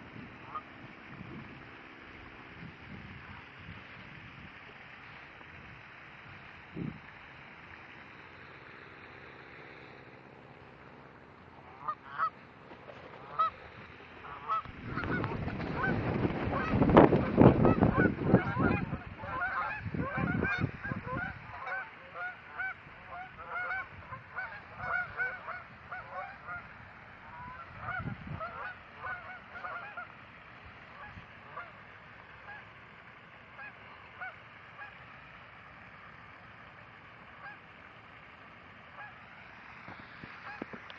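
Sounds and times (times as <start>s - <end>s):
geese honking: 0.0s - 6.5s, 7.1s - 40.9s.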